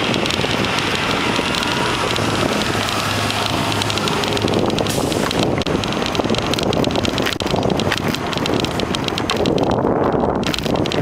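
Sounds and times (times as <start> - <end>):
bicycle rattles and knocks: 0.0 - 11.0
wind rushing over microphone: 0.0 - 11.0.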